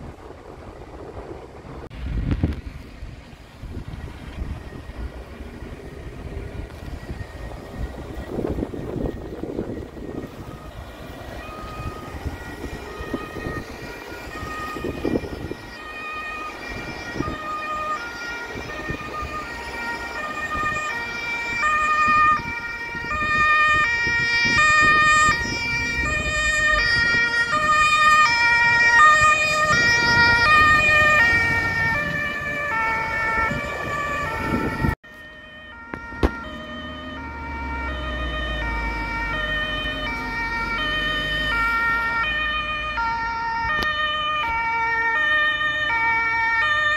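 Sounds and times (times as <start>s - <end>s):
road and engine noise: 0.0s - 46.9s
two-tone siren: 3.7s - 46.9s.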